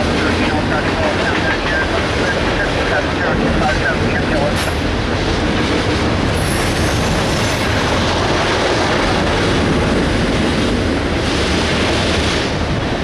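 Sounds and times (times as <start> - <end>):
train wheels rumbling on bridge: 0.0 - 13.0.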